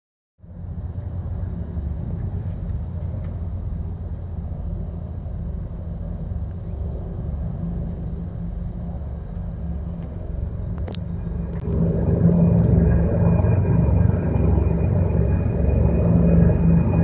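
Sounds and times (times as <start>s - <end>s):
helicopter rotor rumble: 0.4s - 17.0s.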